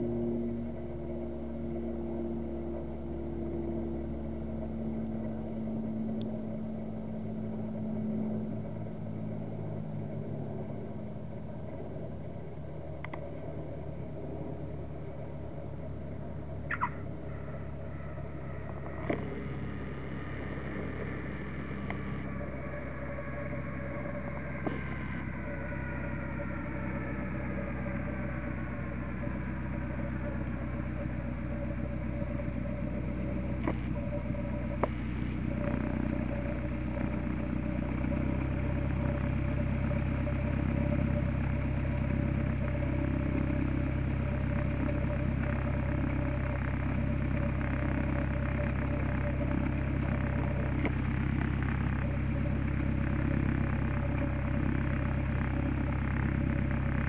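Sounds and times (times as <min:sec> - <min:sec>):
small plane engine and propeller: 0:00.0 - 0:57.0.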